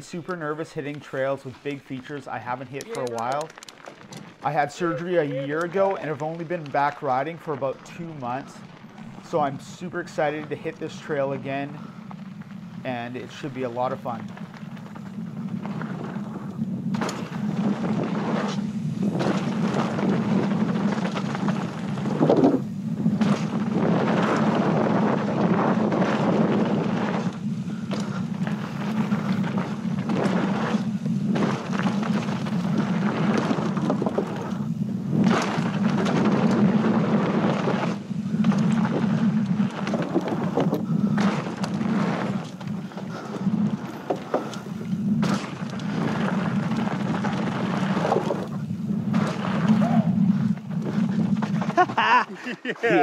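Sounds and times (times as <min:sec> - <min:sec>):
bike rattling: 0:00.0 - 0:53.0
bike tyres rolling on dirt trail: 0:00.0 - 0:53.0
wind rumble on microphone: 0:02.0 - 0:53.0.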